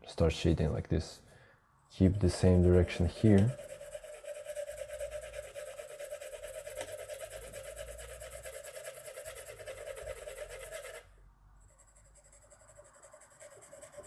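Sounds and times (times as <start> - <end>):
pencil scratching on paper: 2.0 - 14.0.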